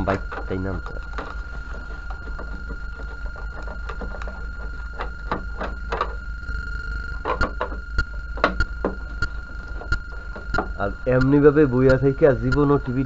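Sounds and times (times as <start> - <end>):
steady high tone: 0.0 - 13.0.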